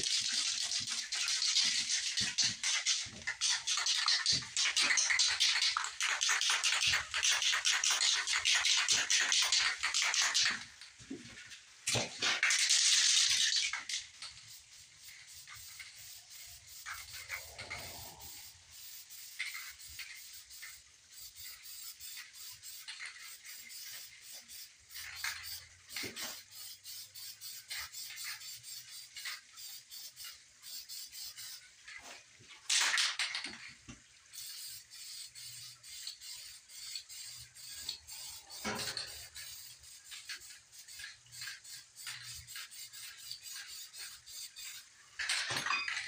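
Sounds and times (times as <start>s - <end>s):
aerosol can spraying: 0.0s - 10.6s, 12.0s - 31.6s, 34.3s - 44.9s.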